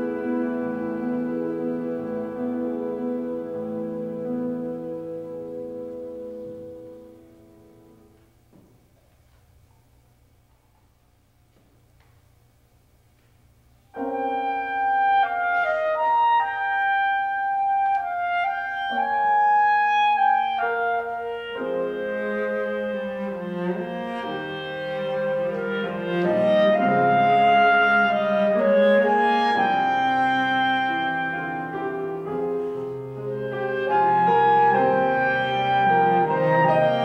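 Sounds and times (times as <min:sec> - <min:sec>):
cello: 0:00.0 - 0:08.3, 0:14.0 - 0:37.0
clarinet notes: 0:00.0 - 0:08.3, 0:13.9 - 0:37.0
piano: 0:00.0 - 0:37.0.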